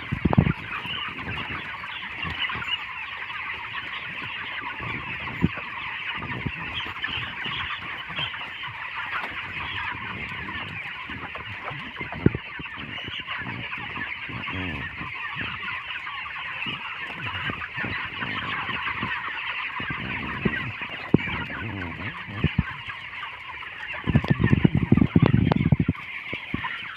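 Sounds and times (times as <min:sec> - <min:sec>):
chickens clucking: 0:00.0 - 0:26.9.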